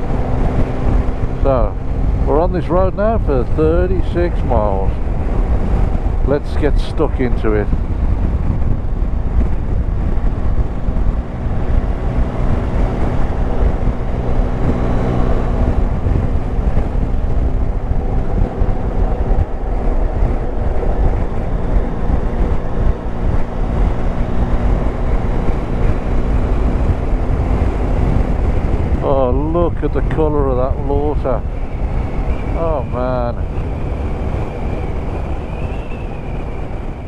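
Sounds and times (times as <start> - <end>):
motorcycle engine running: 0.0 - 6.4, 7.3 - 37.0
wind noise on microphone: 0.0 - 37.0.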